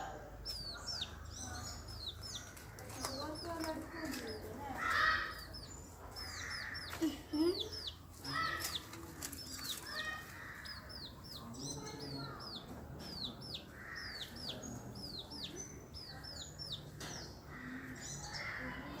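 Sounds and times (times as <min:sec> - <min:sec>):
chick peeping: 0:00.4 - 0:19.0.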